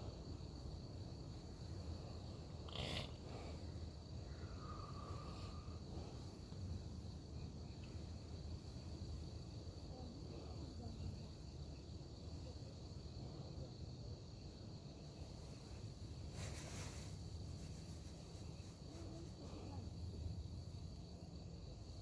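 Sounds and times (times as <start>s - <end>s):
insect trill: 0.0s - 22.0s.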